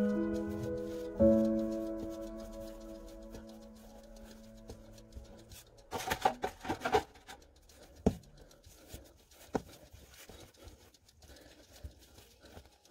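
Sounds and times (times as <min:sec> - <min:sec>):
hands rubbing: 0:00.0 - 0:12.9.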